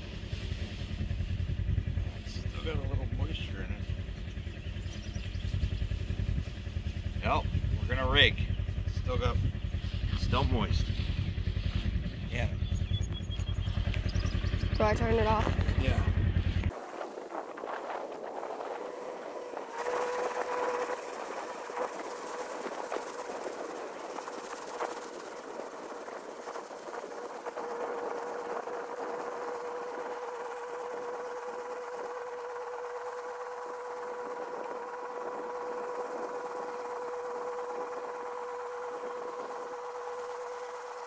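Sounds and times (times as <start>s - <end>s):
tractor engine whining hum: 0.0s - 41.0s.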